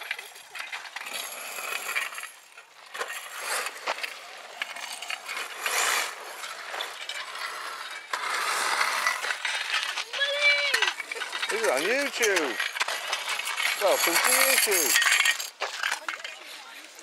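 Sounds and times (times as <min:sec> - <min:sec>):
tyres hissing on loose grit: 0:03.0 - 0:17.0.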